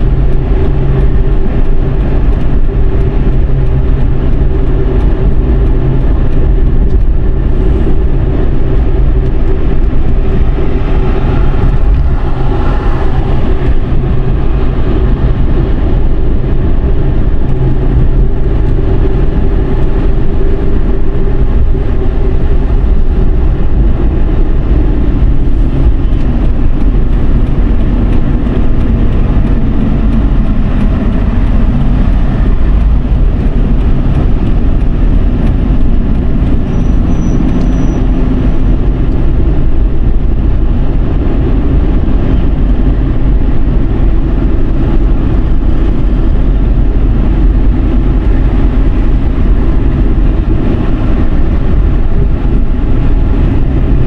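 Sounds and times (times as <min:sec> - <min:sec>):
car engine running: 0:00.0 - 0:54.0
tyre and wind road noise: 0:00.0 - 0:54.0.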